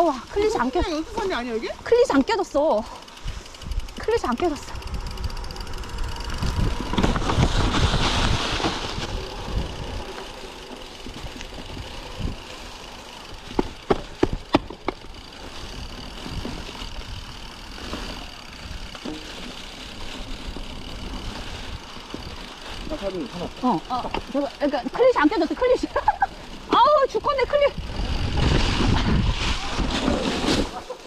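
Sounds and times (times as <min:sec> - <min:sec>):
bike tyres hissing on snow: 0:00.0 - 0:31.0
wind rumbling on microphone: 0:03.2 - 0:24.3, 0:26.6 - 0:30.7.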